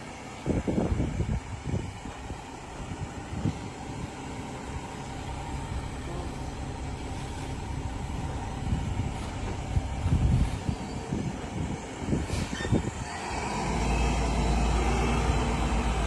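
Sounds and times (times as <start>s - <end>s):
garbage truck engine rumbling: 0.0s - 16.0s.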